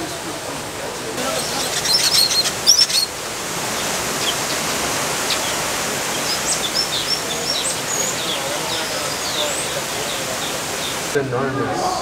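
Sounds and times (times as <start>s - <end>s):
water rushing: 0.0s - 12.0s
small birds chirping: 1.2s - 11.2s.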